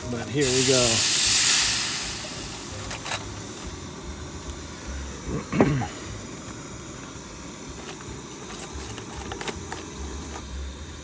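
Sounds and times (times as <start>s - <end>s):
camp stove burner rumble: 0.0s - 11.0s.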